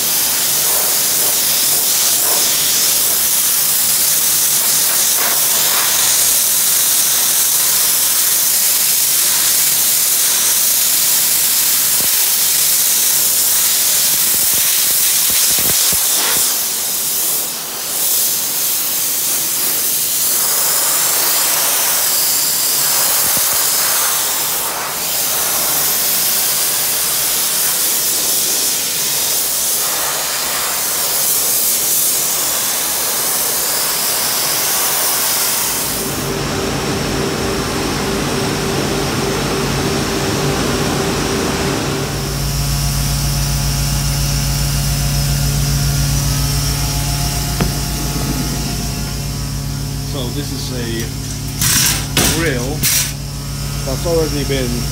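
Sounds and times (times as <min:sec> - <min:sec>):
sandblaster hissing: 0:00.0 - 0:36.4, 0:41.8 - 0:54.9.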